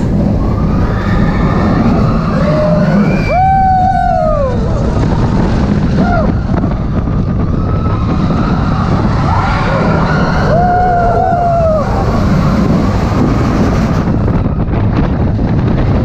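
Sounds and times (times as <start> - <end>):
roller coaster rumbling on track: 0.0 - 16.0
wind buffeting microphone: 0.0 - 16.0
riders screaming: 0.3 - 6.6, 7.4 - 14.6.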